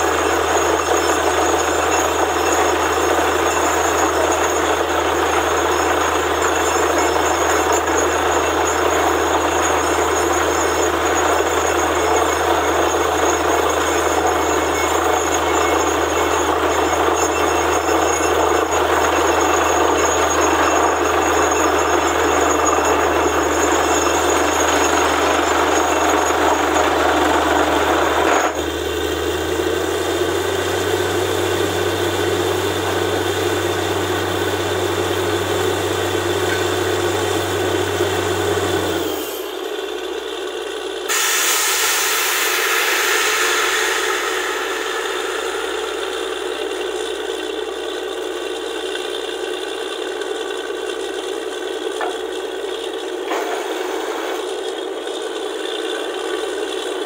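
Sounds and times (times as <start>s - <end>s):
grinding and rattling: 0.0s - 41.1s, 42.7s - 57.0s
drilling rig engine drone: 0.0s - 56.9s.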